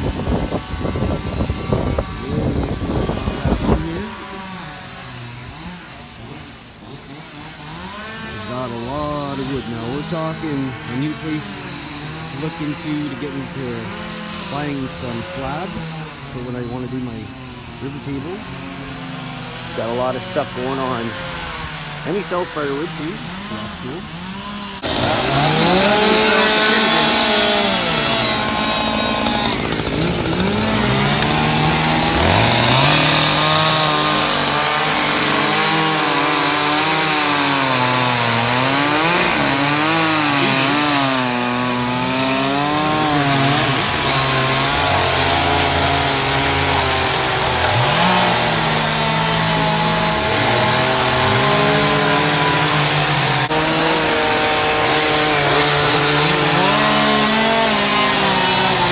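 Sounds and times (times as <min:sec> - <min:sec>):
chainsaw revving: 0:00.0 - 0:58.9.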